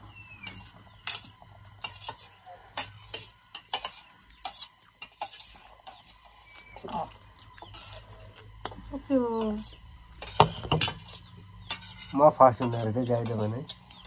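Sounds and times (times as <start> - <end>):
utensil scraping a plate: 0.0 - 14.0.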